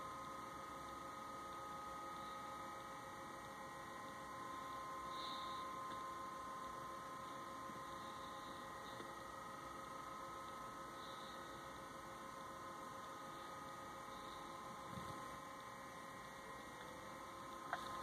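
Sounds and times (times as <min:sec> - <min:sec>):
faint electrical hum: 0:00.0 - 0:18.0
high steady whine tones: 0:00.0 - 0:18.0.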